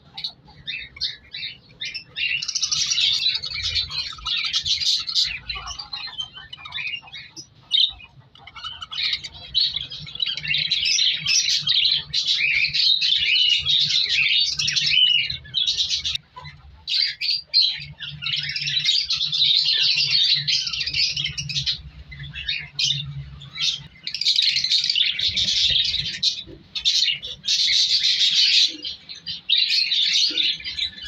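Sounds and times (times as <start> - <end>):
budgerigars chattering and chirping: 0.0 - 31.0.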